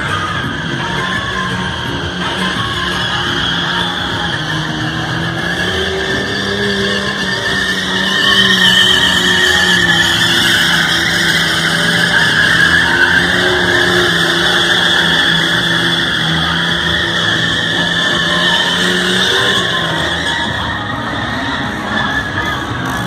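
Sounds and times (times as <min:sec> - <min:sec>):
car engine revving high: 0:00.0 - 0:23.0
car tyres squealing: 0:00.0 - 0:23.0.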